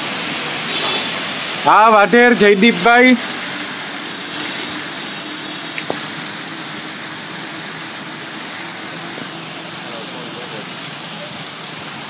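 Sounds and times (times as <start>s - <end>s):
heavy rain on water: 0.0s - 12.0s.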